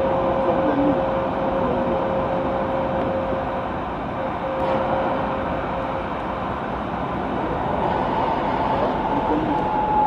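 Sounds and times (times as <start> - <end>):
train high whine: 0.0 - 10.0
train rumble: 0.0 - 10.0.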